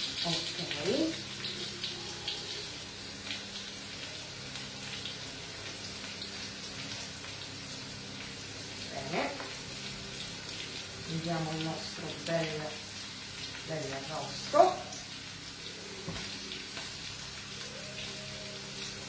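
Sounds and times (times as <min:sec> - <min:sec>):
low appliance hum: 0:00.0 - 0:19.0.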